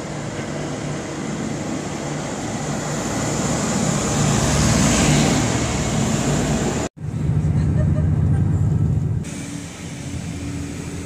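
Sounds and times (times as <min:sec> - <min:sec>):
diesel train passing: 0:00.0 - 0:11.0.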